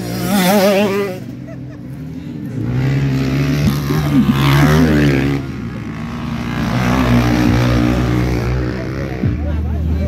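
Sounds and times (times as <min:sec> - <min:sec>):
dirt bike engine revving: 0:00.0 - 0:01.5, 0:02.5 - 0:09.5.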